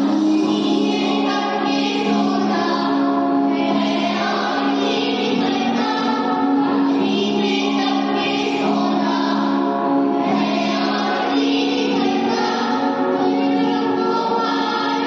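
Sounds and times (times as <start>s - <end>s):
children singing in chorus: 0.0s - 15.0s.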